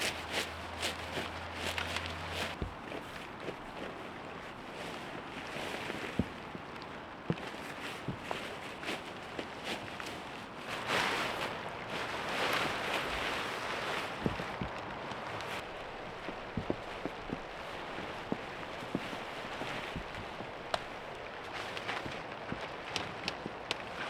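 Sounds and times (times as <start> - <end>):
tent gear rustling: 0.0 - 24.0.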